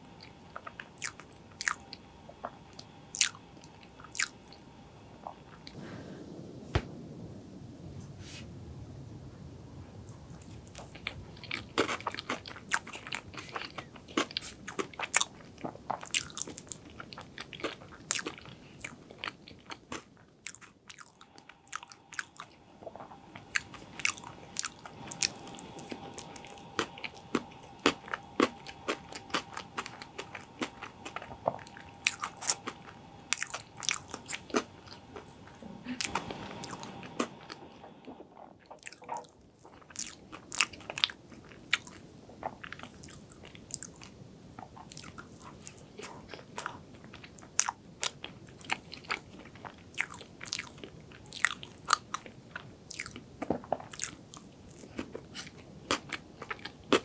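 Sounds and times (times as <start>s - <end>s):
close-miked chewing of cake: 0.0s - 4.6s, 10.4s - 57.0s.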